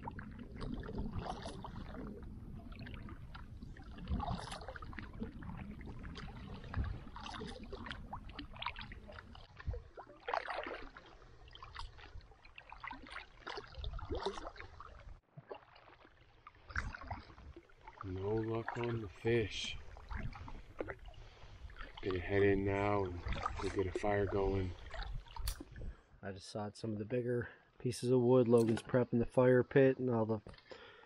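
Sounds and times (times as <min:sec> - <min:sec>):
small splashes and drips: 0:00.0 - 0:26.0
water lapping against a canoe: 0:00.0 - 0:26.2, 0:30.4 - 0:31.0.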